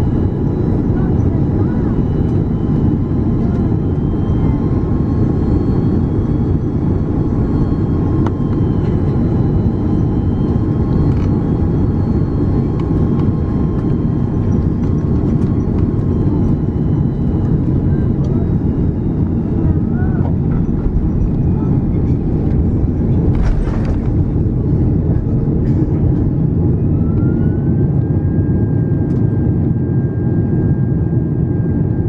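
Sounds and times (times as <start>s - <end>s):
aircraft engines roaring: 0.0s - 32.0s
airflow over airframe: 0.0s - 32.0s.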